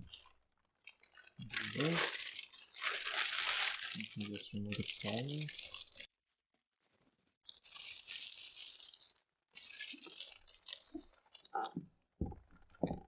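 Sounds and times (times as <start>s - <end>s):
plastic bag crinkling: 0.0s - 6.1s, 6.8s - 11.8s.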